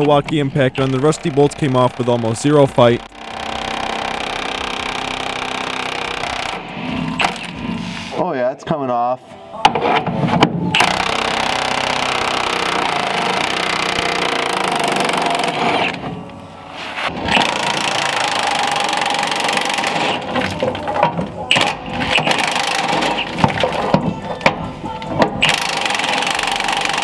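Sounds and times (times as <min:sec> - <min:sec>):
impact wrench hammering: 0:00.3 - 0:07.8, 0:10.4 - 0:16.0, 0:17.1 - 0:27.0.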